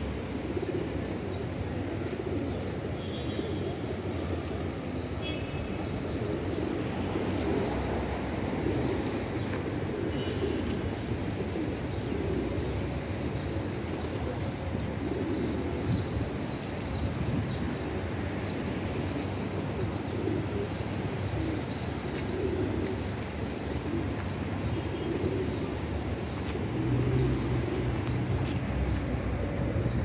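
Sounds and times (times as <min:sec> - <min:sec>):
pigeons cooing: 0:00.1 - 0:30.0.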